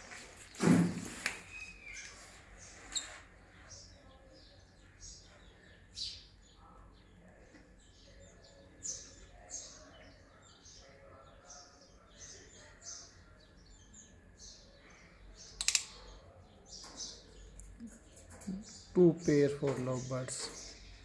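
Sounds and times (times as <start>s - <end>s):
lovebirds chirping: 0.0s - 21.0s.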